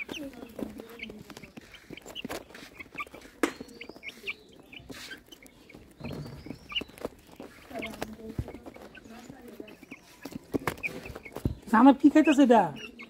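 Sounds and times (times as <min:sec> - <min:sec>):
chickens clucking softly: 0:00.0 - 0:13.0
chicks peeping: 0:00.0 - 0:13.0.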